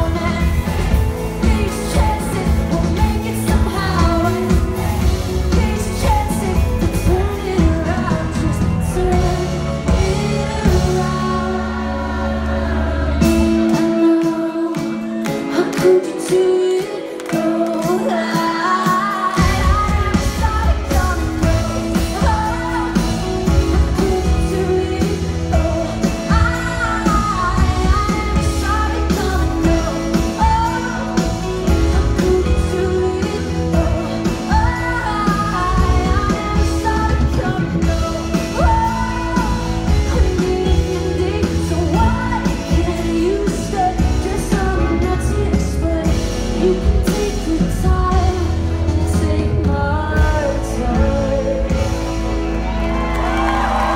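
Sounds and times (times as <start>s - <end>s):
live rock band: 0.0s - 53.9s
woman singing: 0.0s - 53.9s.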